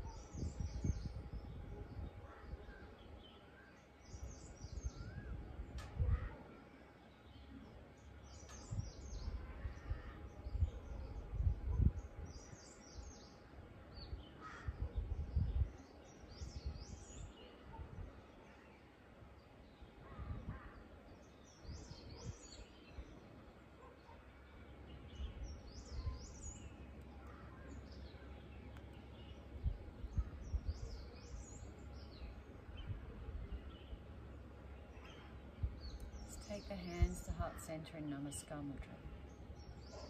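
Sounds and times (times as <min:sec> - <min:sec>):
birds chirping: 0:06.1 - 0:40.0.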